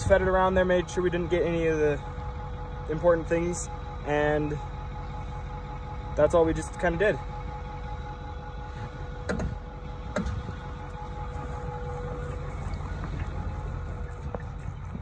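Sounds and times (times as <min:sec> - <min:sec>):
faint engine whine: 0:00.0 - 0:15.0
pickup engine rumbling: 0:00.0 - 0:15.0.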